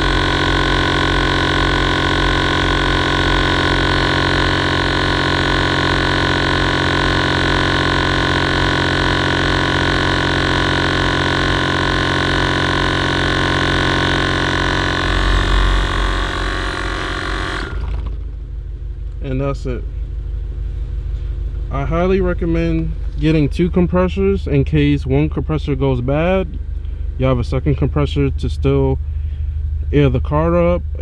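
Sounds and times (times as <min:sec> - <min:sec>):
air compressors humming and rattling: 0:00.0 - 0:31.0.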